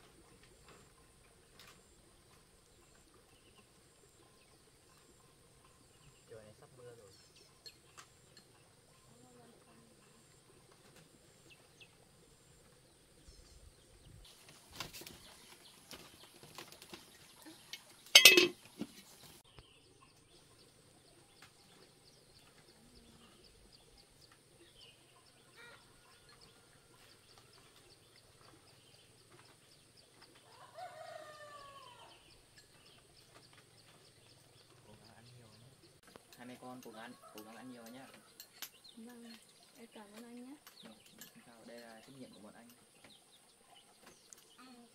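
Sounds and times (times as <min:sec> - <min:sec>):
farmyard animal sounds: 0:00.0 - 0:13.4, 0:14.0 - 0:44.9.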